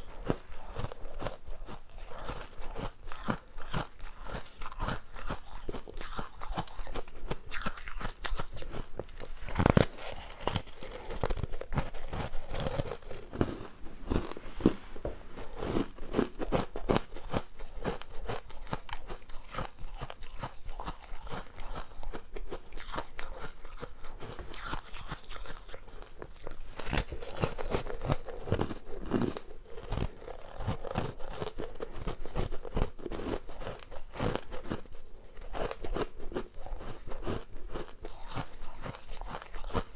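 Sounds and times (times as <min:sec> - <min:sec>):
crunching ice between teeth: 0:00.0 - 0:14.4, 0:15.5 - 0:39.9.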